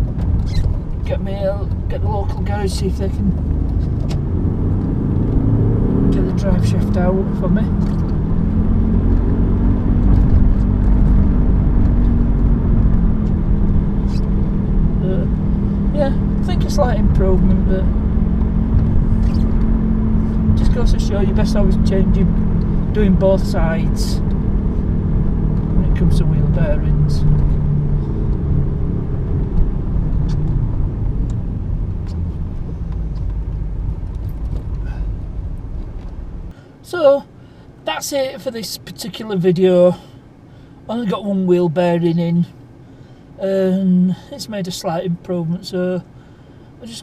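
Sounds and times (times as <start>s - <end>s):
car road rumble and drone: 0.0s - 47.0s.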